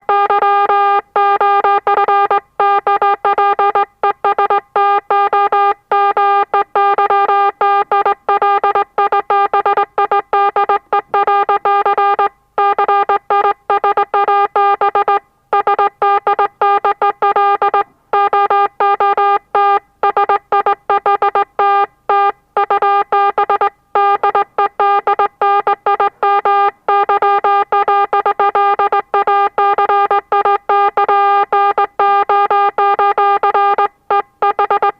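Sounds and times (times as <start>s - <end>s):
morse code tone: 0.0s - 34.9s.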